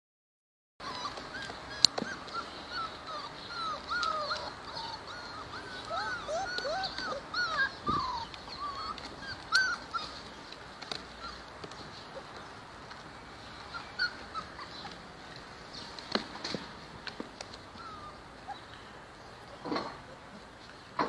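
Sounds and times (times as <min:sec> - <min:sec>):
puppies whimpering and squeaking: 0:00.8 - 0:16.4, 0:17.1 - 0:20.9.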